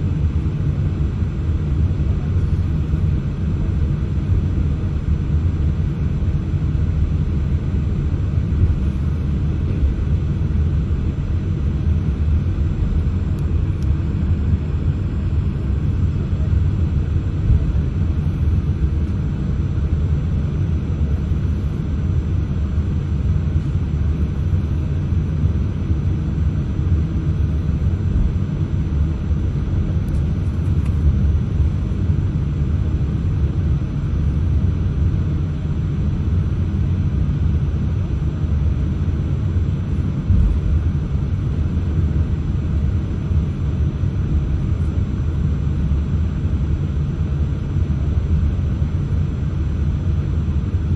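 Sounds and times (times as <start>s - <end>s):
aircraft cabin rumble: 0.0s - 50.9s.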